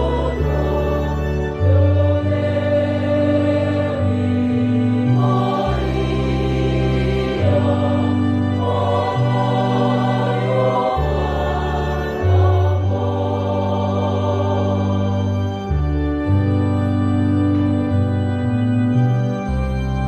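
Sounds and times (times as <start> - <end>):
choir singing a hymn: 0.0 - 17.0
organ bass notes: 0.0 - 20.0.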